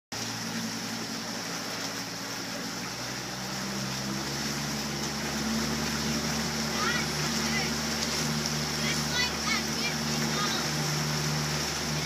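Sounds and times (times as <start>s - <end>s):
small outboard motor running: 0.1s - 12.0s
water and wind hiss: 0.1s - 12.0s.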